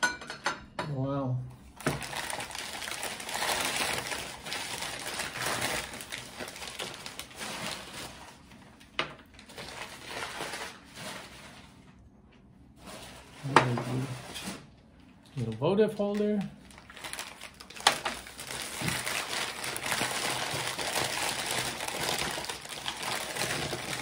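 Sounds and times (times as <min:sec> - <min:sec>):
packing paper rustling: 0:01.8 - 0:12.0, 0:12.8 - 0:14.8, 0:15.4 - 0:24.0.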